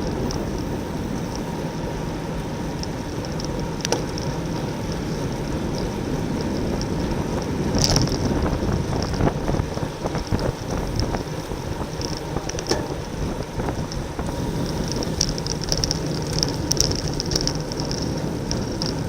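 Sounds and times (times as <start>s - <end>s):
bicycle road noise: 0.0s - 19.0s
wind rushing over microphone: 0.0s - 19.0s.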